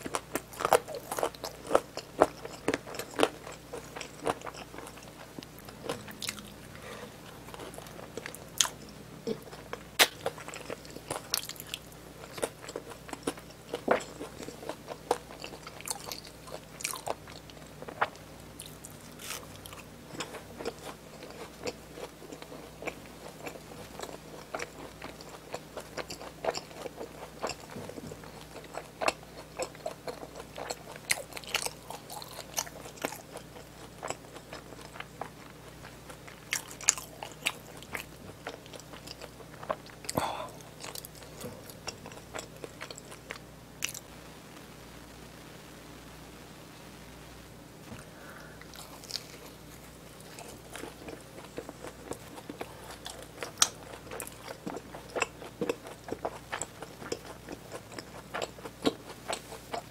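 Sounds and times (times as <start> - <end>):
person chewing and crunching food: 0.0 - 44.1, 47.8 - 59.9.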